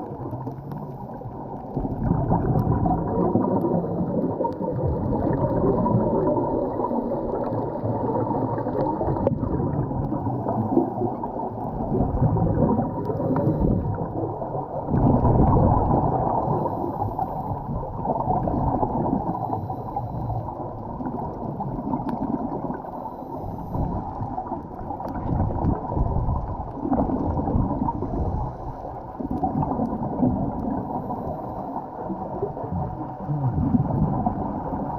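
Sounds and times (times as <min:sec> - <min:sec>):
underwater churning and gurgling: 0:00.0 - 0:34.9.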